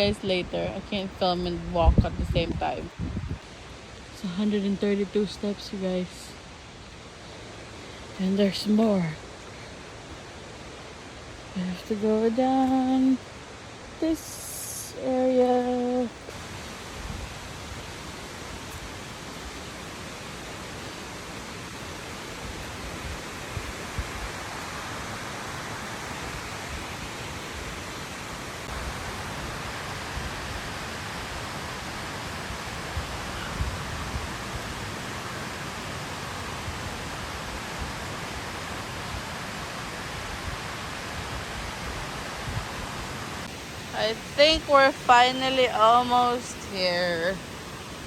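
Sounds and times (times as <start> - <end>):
waterfall rushing: 5.7 - 48.0.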